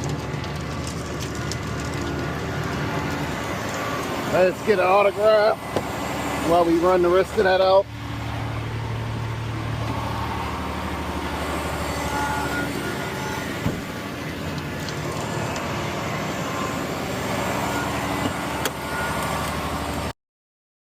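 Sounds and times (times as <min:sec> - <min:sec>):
diesel truck engine running: 0:00.0 - 0:20.1.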